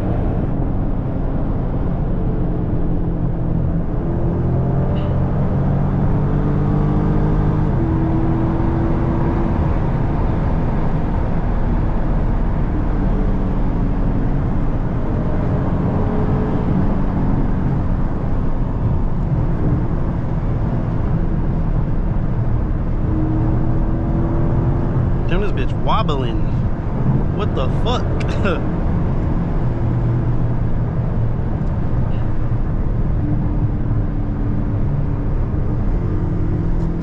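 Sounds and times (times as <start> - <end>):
car engine drone: 0.0 - 37.0
tyre and road noise: 0.0 - 37.0.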